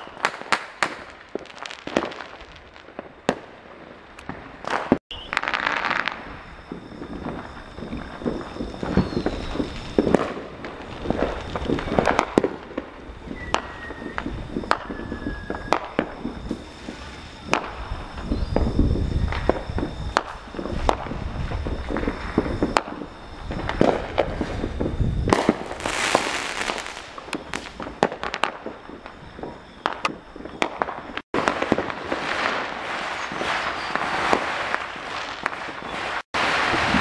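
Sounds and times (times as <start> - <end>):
crackling hiss of fireworks: 0.0 - 37.0
fireworks bangs: 0.0 - 37.0.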